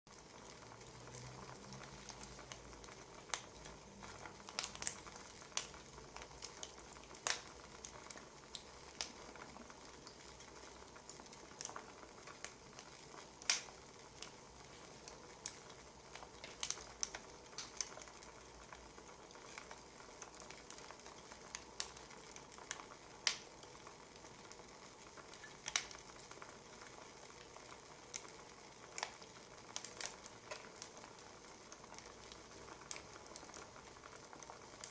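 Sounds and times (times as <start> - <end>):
burning logs popping: 0.1 - 34.9
wood fire crackling: 0.1 - 34.9.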